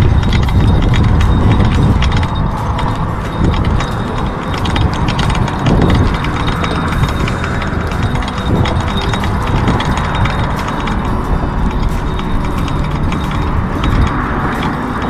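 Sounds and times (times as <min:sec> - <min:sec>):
fishing reel clicking and rattling: 0:00.0 - 0:15.0
low rumble: 0:00.0 - 0:15.0.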